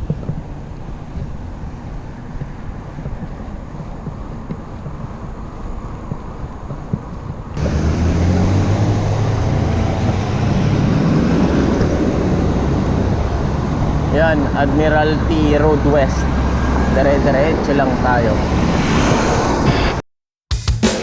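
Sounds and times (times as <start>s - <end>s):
bicycle road rumble: 0.0s - 20.0s
road traffic engine hum: 0.0s - 20.0s
wind: 0.0s - 20.0s.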